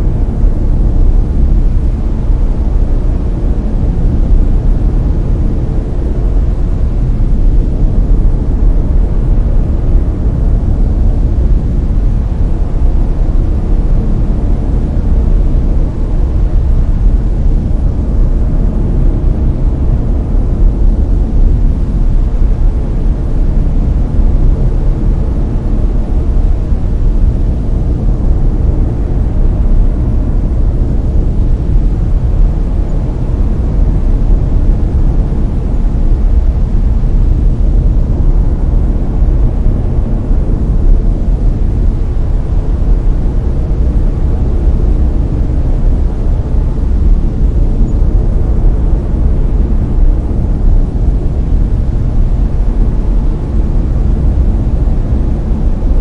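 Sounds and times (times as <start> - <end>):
deep rumbling brown noise: 0.0 - 56.0.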